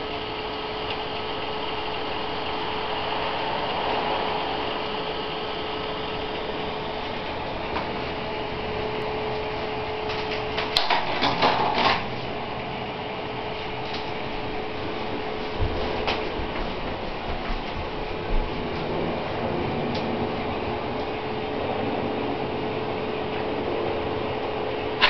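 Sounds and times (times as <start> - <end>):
fan whirring: 0.0 - 25.0.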